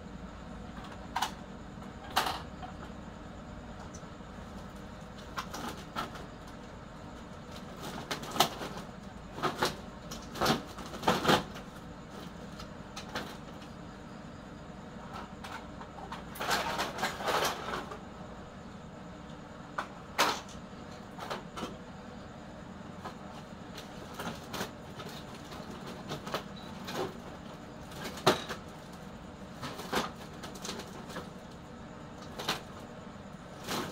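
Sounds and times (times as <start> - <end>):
low background hum: 0.0 - 33.9.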